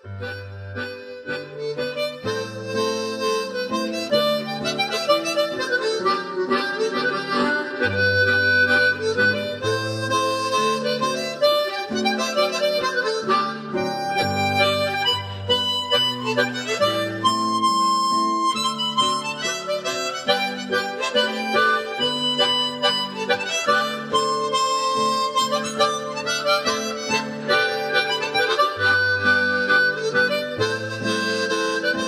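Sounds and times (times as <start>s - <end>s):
instrumental background music: 0.1s - 32.0s.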